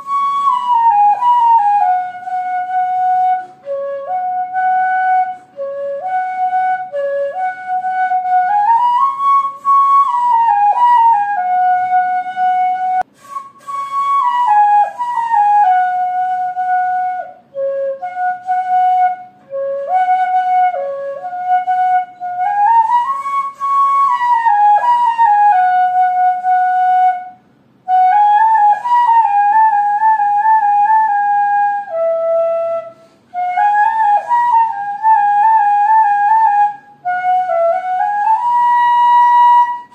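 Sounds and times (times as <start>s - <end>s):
slow flute melody: 0.0s - 39.9s.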